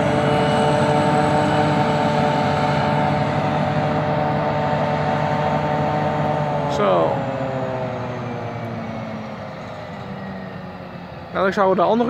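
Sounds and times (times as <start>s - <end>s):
harvester and tractor droning: 0.0s - 12.0s.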